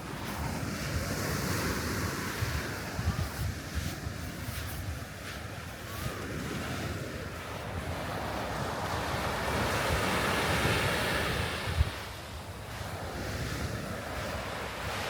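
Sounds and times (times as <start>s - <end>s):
sea waves breaking on beach: 0.0s - 15.0s
wind buffeting microphone: 0.0s - 15.0s.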